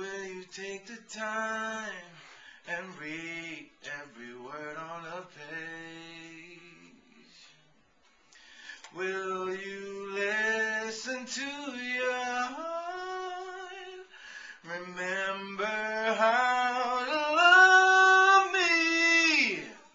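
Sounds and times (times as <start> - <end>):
man singing alone: 0.0 - 7.5, 8.9 - 19.9.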